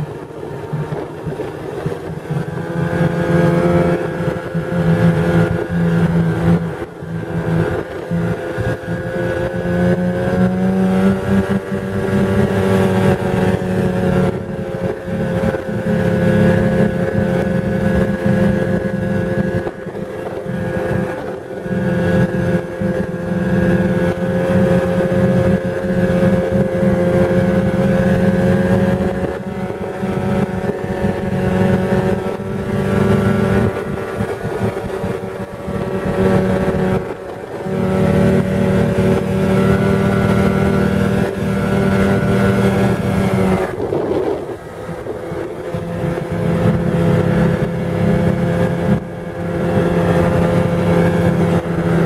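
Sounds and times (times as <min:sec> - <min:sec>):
snowmobile engine running: 0:00.0 - 0:52.0.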